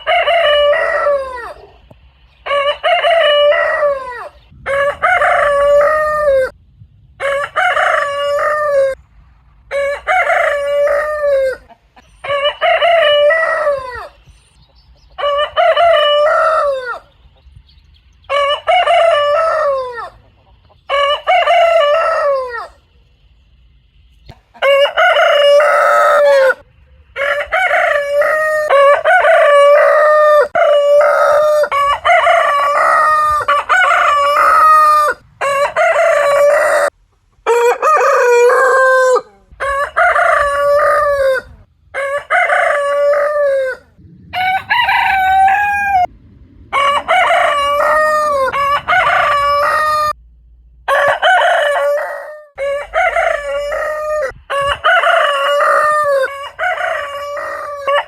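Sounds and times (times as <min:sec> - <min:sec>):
roosters crowing: 0:00.0 - 0:06.6, 0:07.2 - 0:09.0, 0:09.6 - 0:14.5, 0:15.1 - 0:17.3, 0:18.2 - 0:23.0, 0:24.3 - 0:50.2, 0:50.8 - 0:58.0.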